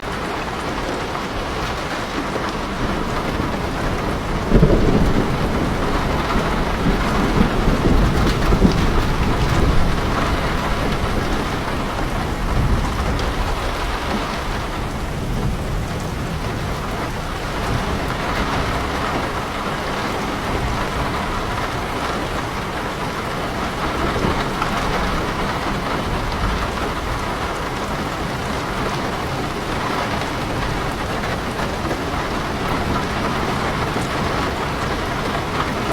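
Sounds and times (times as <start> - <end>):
heavy rain on leaves: 0.0 - 35.9.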